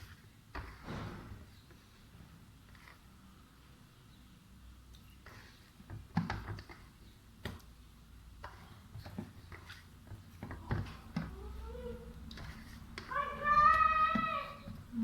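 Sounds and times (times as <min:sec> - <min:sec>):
dough being kneaded by hand: 0:00.0 - 0:03.9, 0:04.8 - 0:15.0.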